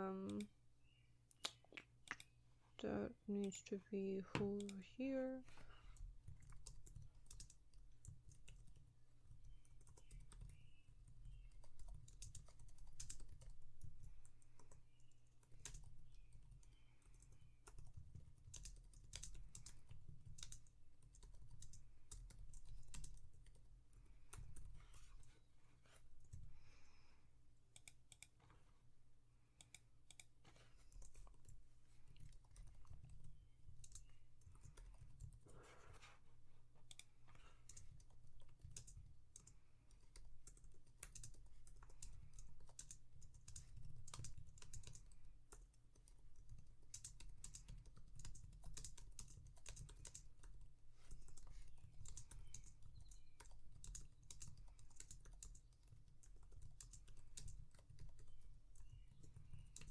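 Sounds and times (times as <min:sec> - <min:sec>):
typing on computer keyboard: 0:06.0 - 0:25.2, 0:29.6 - 0:35.5, 0:36.9 - 0:59.9.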